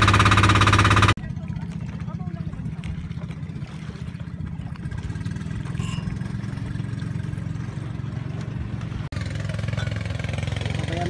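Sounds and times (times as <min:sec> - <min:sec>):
boat engine puttering: 0:00.0 - 0:11.0.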